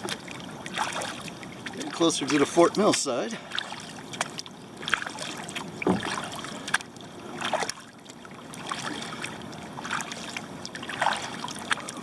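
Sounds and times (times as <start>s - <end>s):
paddle blades dipping into water: 0.0s - 12.0s
water splashes and drips: 0.0s - 12.0s.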